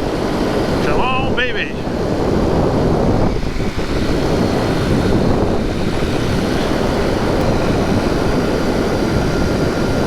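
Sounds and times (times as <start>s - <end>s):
motorbike engine running: 0.0s - 10.0s
wind rushing over microphone: 0.0s - 10.0s.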